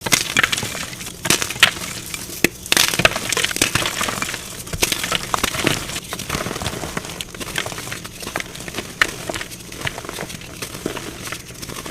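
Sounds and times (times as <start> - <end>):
chalk being crushed: 0.0 - 11.9.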